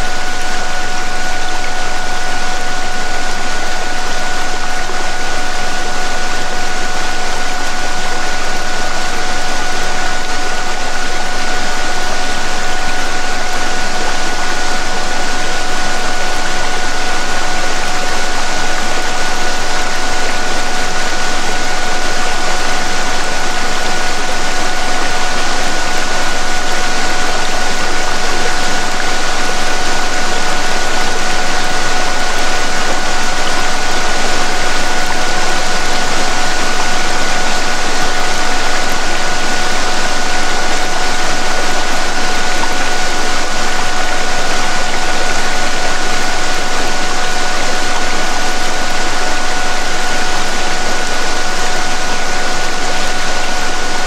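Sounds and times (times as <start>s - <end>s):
continuous pure tone: 0.0s - 54.0s.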